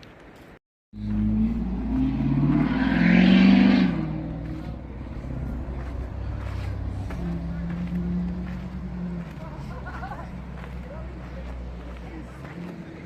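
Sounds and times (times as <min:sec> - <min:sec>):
vehicle engine starting and running: 0:00.9 - 0:13.0.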